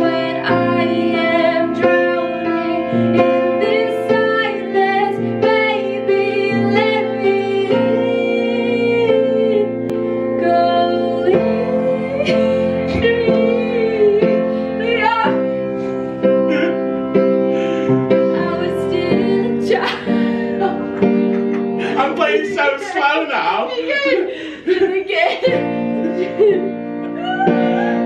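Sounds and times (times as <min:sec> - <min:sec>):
woman singing: 0:00.0 - 0:15.7, 0:18.3 - 0:20.9, 0:22.7 - 0:28.0
piano chords: 0:00.0 - 0:28.0.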